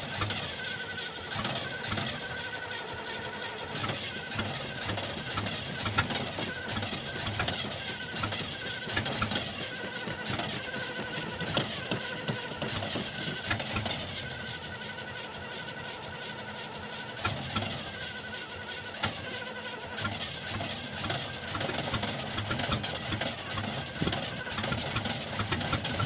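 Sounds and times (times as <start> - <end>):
starter motor cranking engine: 0.0 - 26.0.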